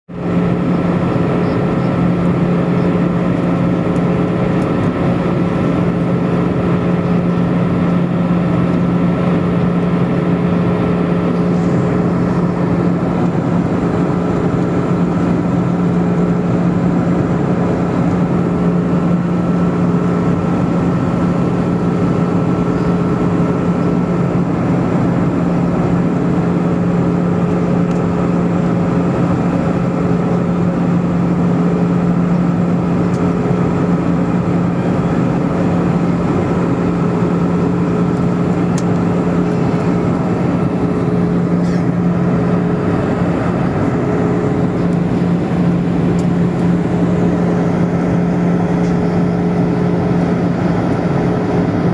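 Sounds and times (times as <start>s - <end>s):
airliner cabin engine drone: 0.1s - 51.9s.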